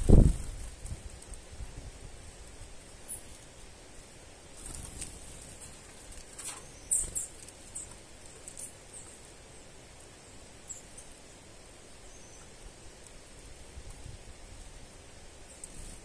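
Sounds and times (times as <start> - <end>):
leaves rustling: 0.0 - 16.0.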